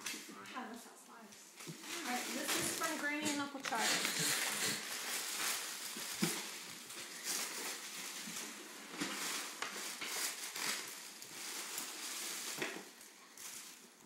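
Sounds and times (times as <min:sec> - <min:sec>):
tissue paper crinkling: 0:01.6 - 0:14.0.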